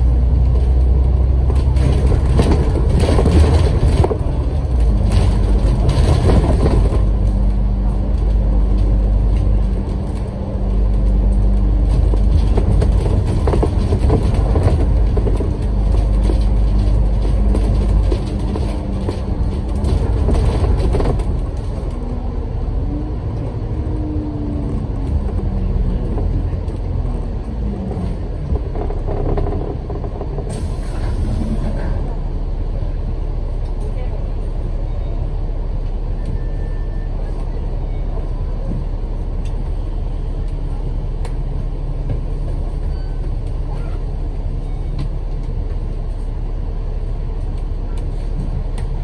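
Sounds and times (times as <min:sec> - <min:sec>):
bus engine and road noise: 0:00.0 - 0:49.0.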